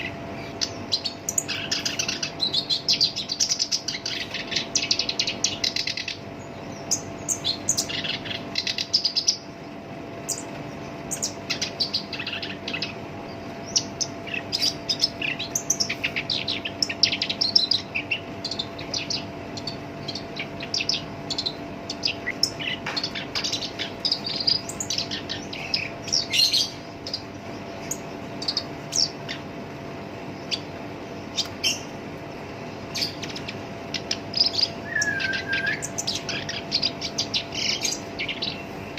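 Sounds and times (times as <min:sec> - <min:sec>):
faint steady hum: 0:00.0 - 0:38.9
reed warbler singing scratchy song: 0:00.0 - 0:38.9.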